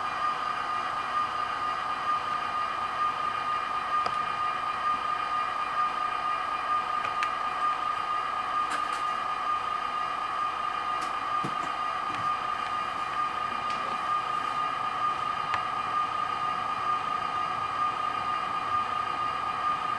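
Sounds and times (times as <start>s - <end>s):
model train running on track: 0.0s - 19.9s
steady high whine: 0.0s - 19.9s.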